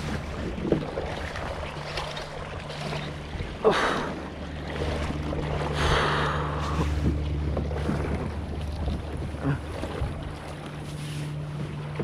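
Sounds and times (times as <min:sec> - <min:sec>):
steady low hum: 0:00.0 - 0:12.0
water lapping and splashing: 0:00.0 - 0:12.0.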